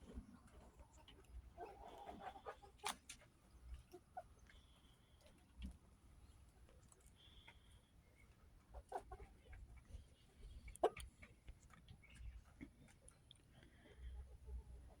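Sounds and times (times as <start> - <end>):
chickens clucking softly: 0.0 - 15.0.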